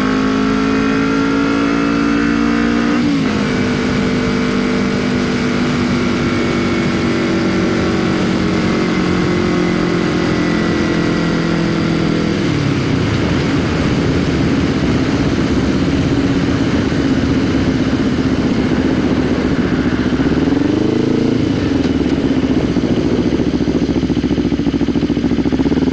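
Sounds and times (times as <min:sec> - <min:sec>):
motorcycle engine running: 0:00.0 - 0:25.9
wind and road noise: 0:00.0 - 0:25.9.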